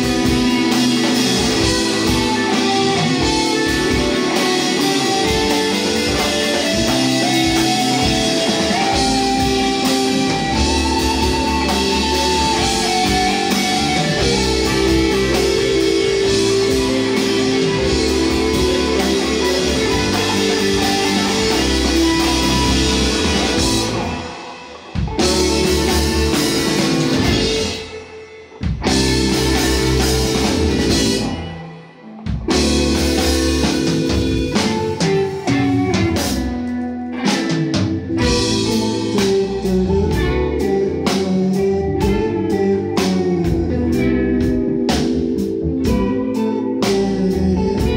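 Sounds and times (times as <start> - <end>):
live rock band playing: 0.0 - 47.9.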